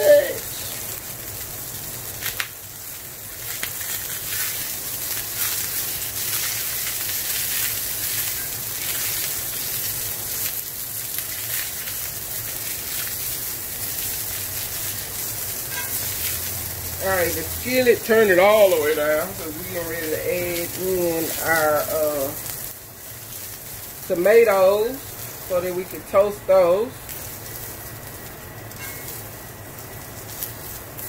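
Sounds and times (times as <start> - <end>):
vegetables sizzling in a skillet: 0.0 - 31.0.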